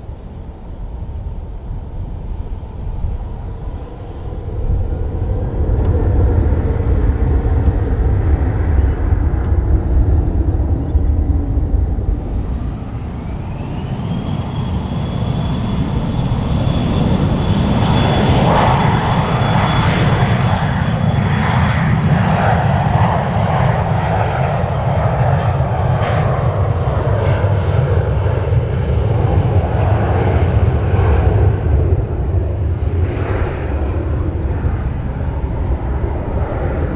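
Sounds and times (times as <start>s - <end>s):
jet engines whining: 0.0s - 36.9s.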